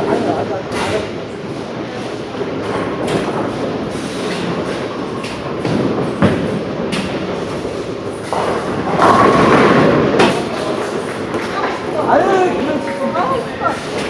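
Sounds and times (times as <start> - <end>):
bowling balls rolling down lanes: 0.0 - 14.0.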